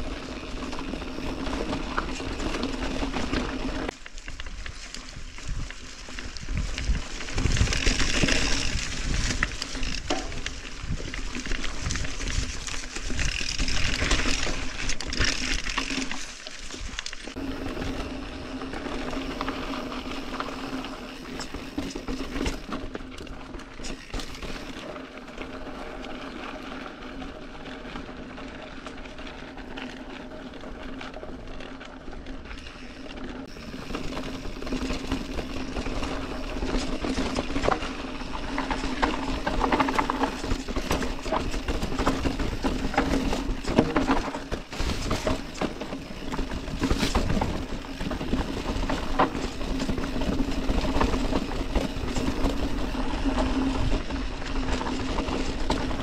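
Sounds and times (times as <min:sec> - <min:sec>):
bike tyres rolling over dirt: 0:00.0 - 0:56.0.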